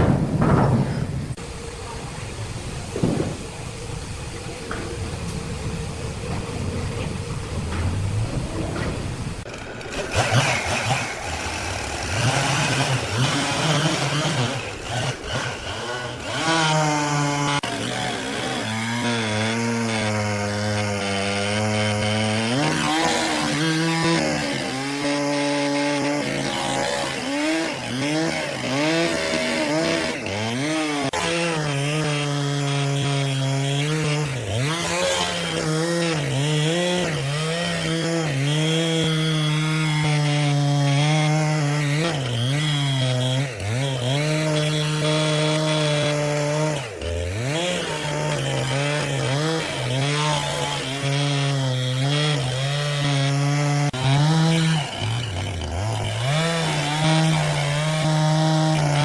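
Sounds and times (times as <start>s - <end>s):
petrol saw cutting log: 0.0s - 59.0s.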